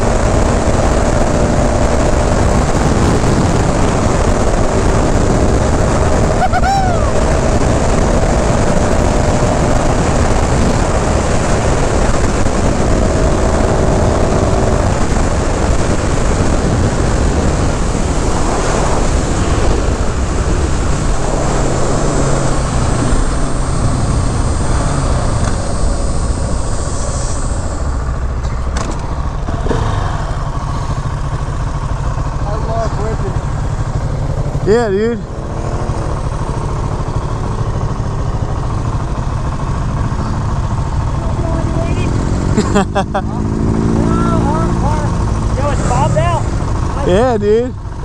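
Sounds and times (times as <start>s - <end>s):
motorcycle engine at speed: 0.0s - 48.0s
wind rushing on microphone: 0.0s - 48.0s.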